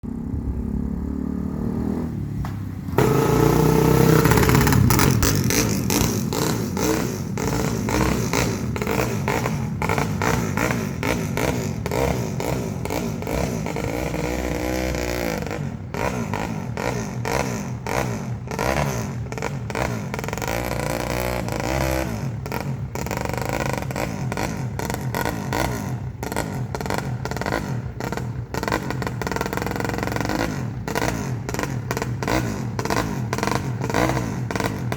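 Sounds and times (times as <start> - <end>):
engine starting and revving: 0.0 - 34.9.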